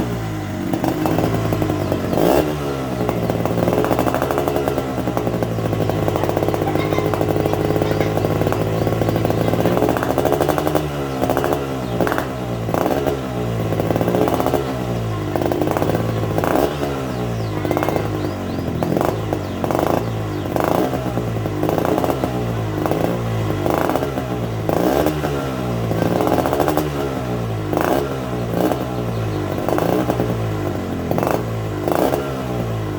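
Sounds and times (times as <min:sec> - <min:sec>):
exhaust crackles: 0:00.0 - 0:32.9
motorcycle engine revving: 0:00.0 - 0:32.9.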